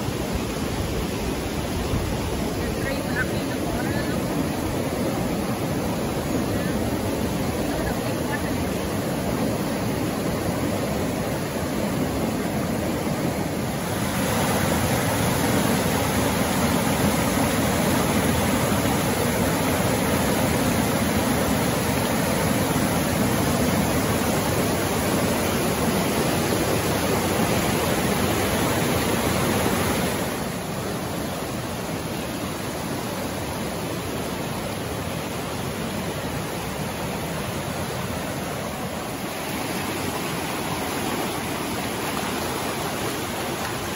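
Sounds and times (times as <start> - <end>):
creek rushing over rocks: 0.0 - 43.9.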